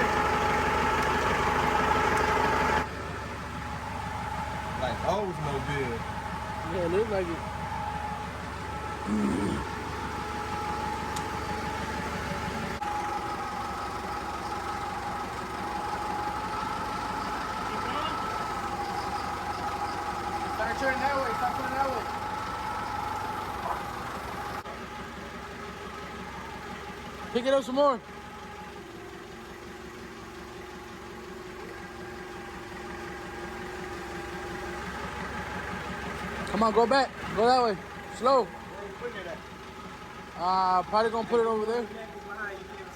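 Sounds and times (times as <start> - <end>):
engine idling with whine: 0.0 - 42.9.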